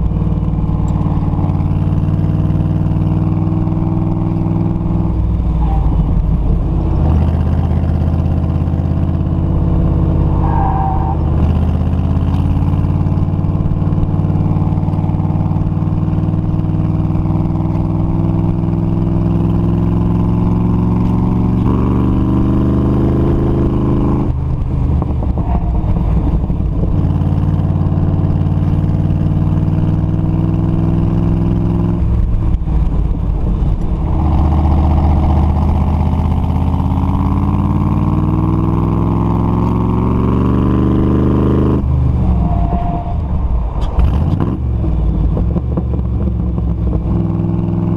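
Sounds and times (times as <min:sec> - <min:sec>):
car engine working hard: 0:00.0 - 0:47.9.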